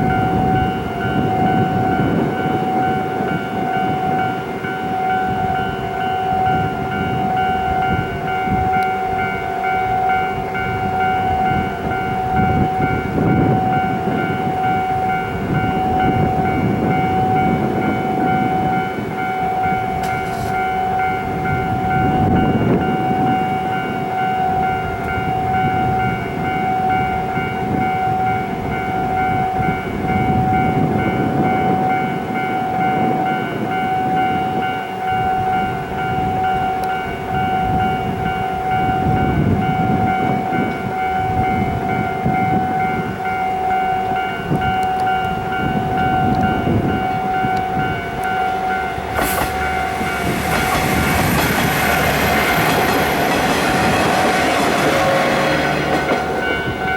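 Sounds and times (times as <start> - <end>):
diesel train rumbling past: 0.0 - 56.9
level crossing warning bell: 0.0 - 56.9.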